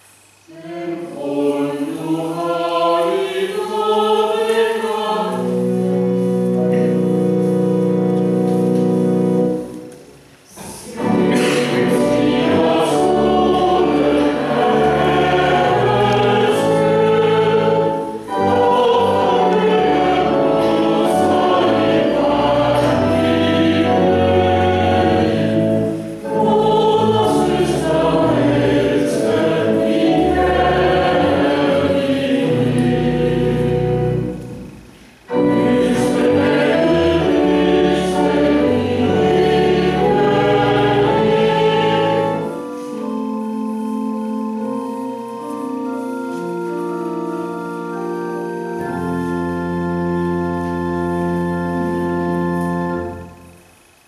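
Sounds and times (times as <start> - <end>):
choir singing: 0.5 - 7.1, 10.6 - 53.6.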